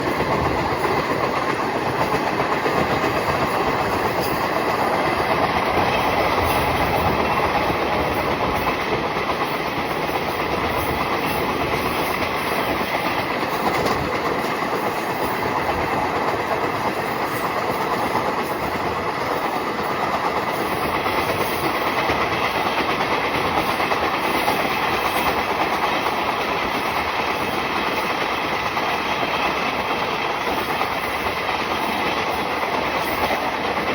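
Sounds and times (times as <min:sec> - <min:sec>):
train wheels clattering on track: 0:00.0 - 0:33.9.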